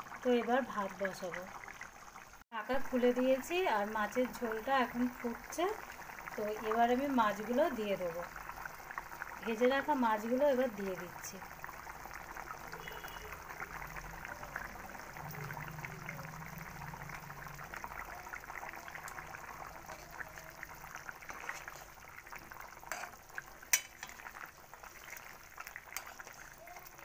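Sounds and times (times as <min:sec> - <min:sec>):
thick gravy bubbling: 0:00.0 - 0:27.0.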